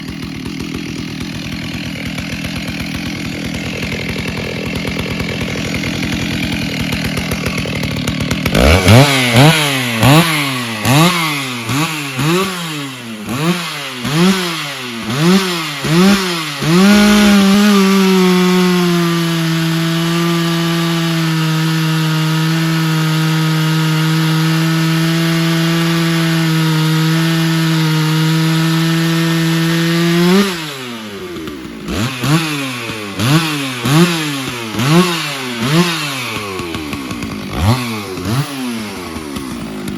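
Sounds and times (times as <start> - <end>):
chainsaw cutting log: 0.0 - 39.9
chainsaw revving: 0.0 - 39.9.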